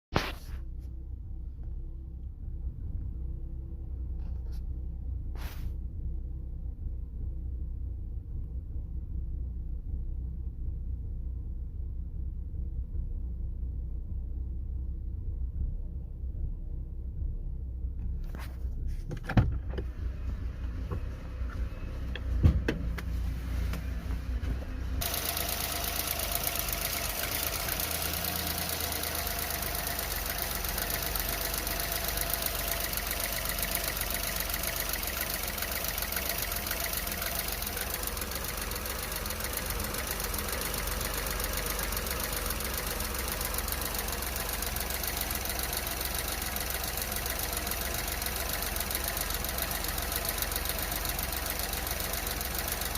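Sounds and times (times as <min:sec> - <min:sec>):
car engine rough idle: 0:00.2 - 0:52.9.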